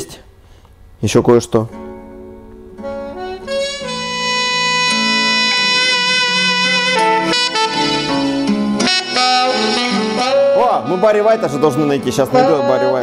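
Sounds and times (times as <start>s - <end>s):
instrumental music through speakers: 1.8s - 13.0s.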